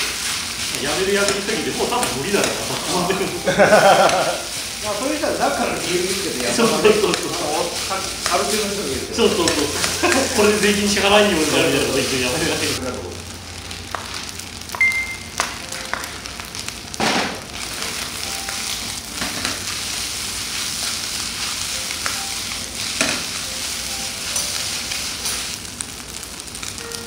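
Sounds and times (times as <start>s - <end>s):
rice sizzling in a wok: 0.0s - 27.0s.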